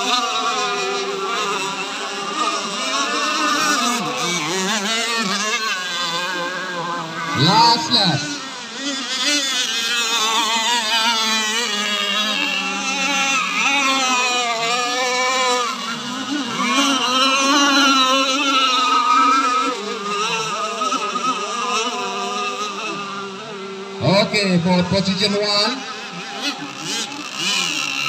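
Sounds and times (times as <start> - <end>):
model powerboat motors whining: 0.0 - 28.0.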